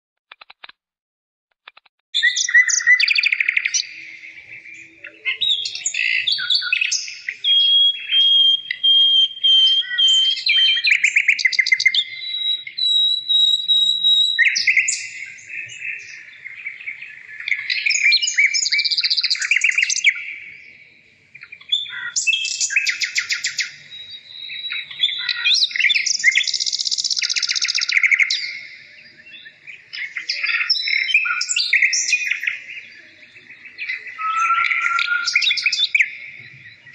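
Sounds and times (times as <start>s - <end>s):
birdsong with trills and whistles: 1.6s - 36.9s.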